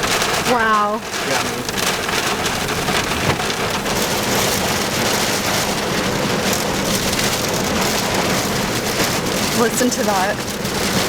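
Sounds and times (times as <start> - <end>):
heavy rain on a vehicle: 0.0 - 11.0.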